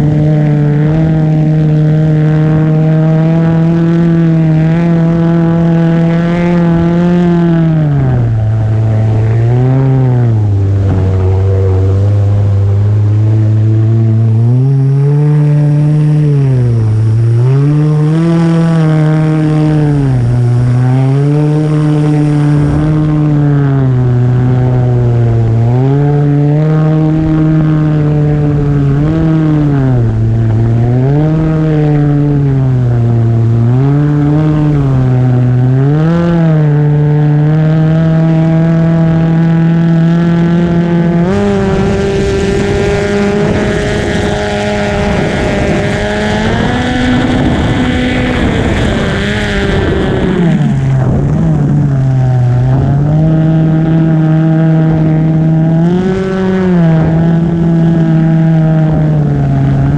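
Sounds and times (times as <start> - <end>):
jet ski engine revving: 0.0 - 59.9
water rushing noise: 0.0 - 59.9.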